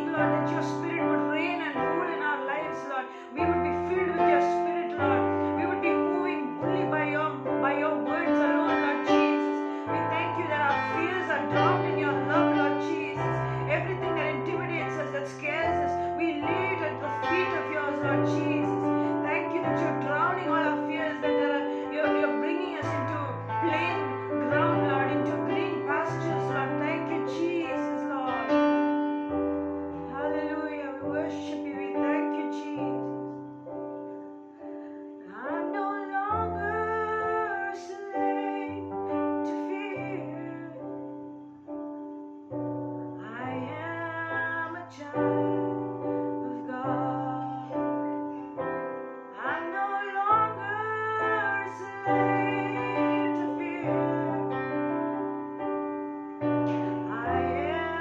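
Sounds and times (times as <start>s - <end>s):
woman singing worship song: 0.0s - 28.7s, 29.9s - 33.3s, 34.8s - 41.2s, 43.1s - 48.5s, 49.4s - 54.9s, 56.6s - 58.0s
piano chords and bass notes: 0.0s - 58.0s.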